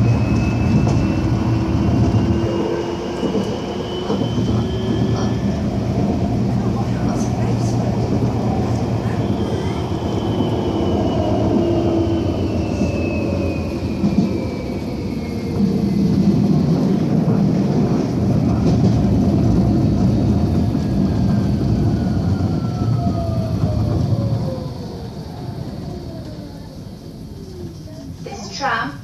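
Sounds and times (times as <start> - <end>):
tram wheels rumbling on rail: 0.0 - 29.0.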